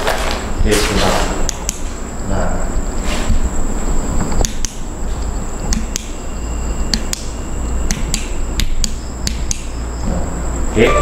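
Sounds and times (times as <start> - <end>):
night insects droning: 0.0 - 11.0.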